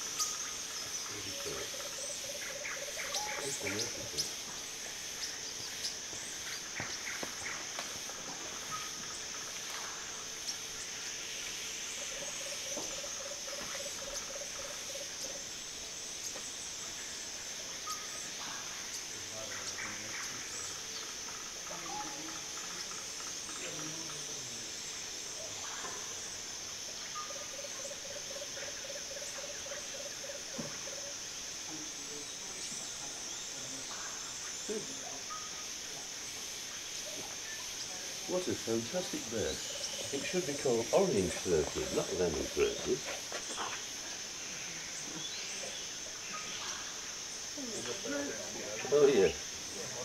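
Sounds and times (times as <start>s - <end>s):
high insect buzz: 0.0s - 50.0s.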